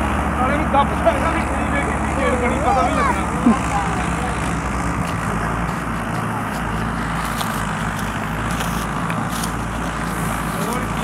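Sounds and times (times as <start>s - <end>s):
diesel tractor engines under load: 0.0s - 11.0s.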